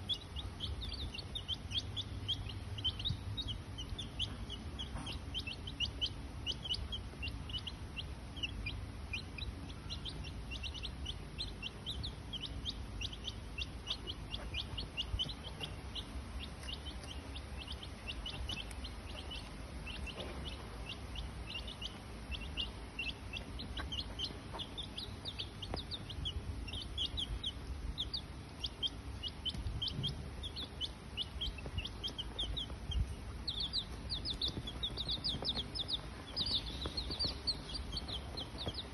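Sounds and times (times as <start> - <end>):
rapid high-pitched chirping: 0.0 - 38.9
steady low rumble: 0.0 - 38.9.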